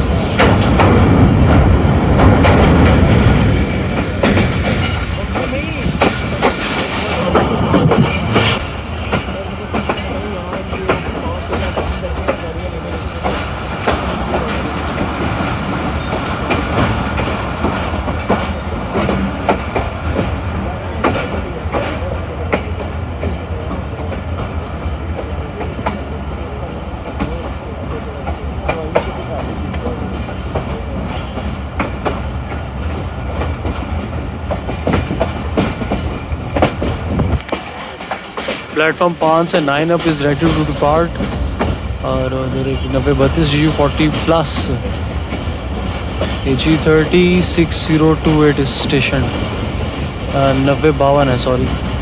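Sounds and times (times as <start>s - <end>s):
train rumbling on track: 0.0s - 52.0s
wheels clicking over rail joints: 0.0s - 52.0s.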